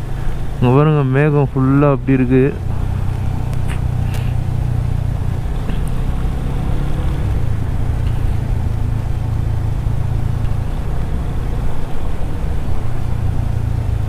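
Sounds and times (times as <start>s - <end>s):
motorcycle engine drone: 0.0s - 14.0s
road rumble: 0.0s - 14.0s
wind: 0.0s - 14.0s.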